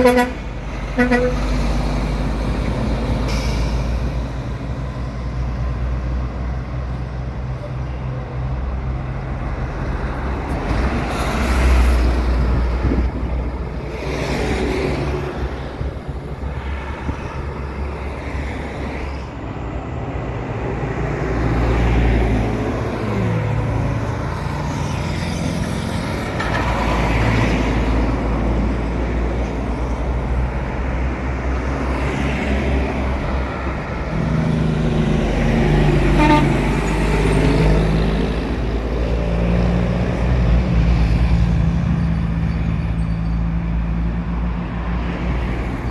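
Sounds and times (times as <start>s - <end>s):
heavy vehicle engine droning: 0.0s - 45.9s
vehicles passing: 0.0s - 45.9s.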